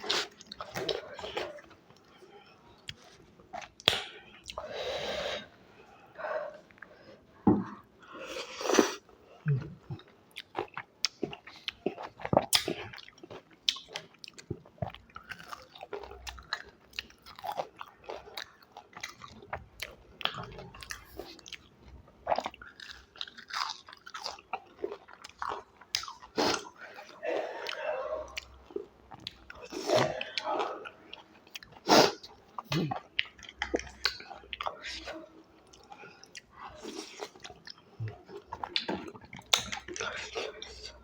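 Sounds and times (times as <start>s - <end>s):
person chewing crunchy food: 7.7s - 40.8s.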